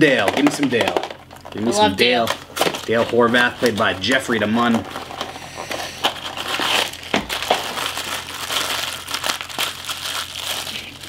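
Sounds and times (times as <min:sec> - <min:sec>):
foil bag crinkling: 0:00.2 - 0:11.0.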